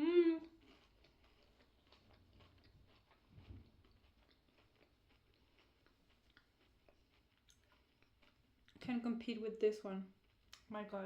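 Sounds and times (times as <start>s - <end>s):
crunchy chewing of wafer: 0.4s - 8.8s, 10.1s - 10.7s.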